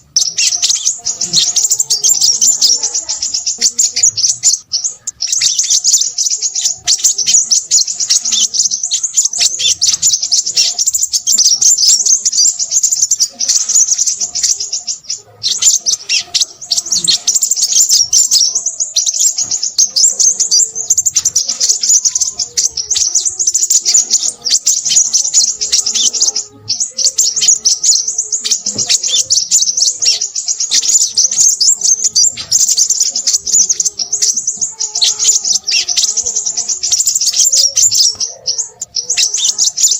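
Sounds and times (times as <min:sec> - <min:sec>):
bird twittering chatter: 0:00.0 - 0:39.9.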